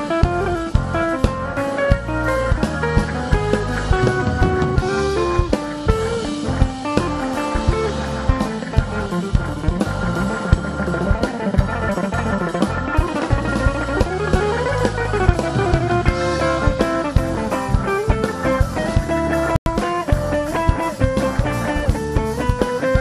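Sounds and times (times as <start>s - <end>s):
acoustic guitar melody: 0.0s - 23.0s
bass guitar: 0.0s - 23.0s
drum kit steady beat: 0.0s - 23.0s.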